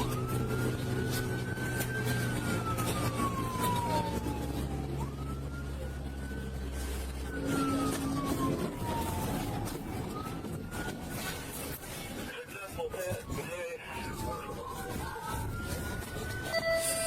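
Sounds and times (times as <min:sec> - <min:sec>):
police siren wailing: 0:00.0 - 0:17.0
road noise: 0:00.0 - 0:17.0.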